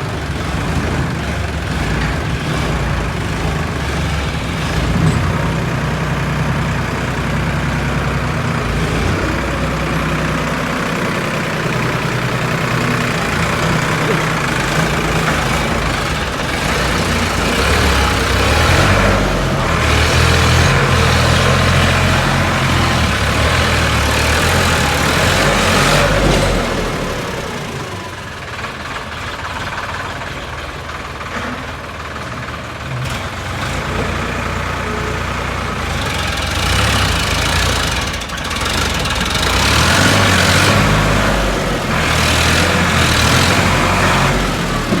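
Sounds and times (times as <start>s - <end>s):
tractor diesel engine running hard: 0.0s - 45.0s.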